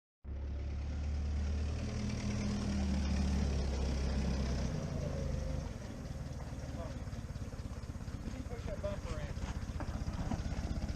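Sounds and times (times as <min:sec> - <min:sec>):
vehicle engine idling: 0:00.3 - 0:10.9.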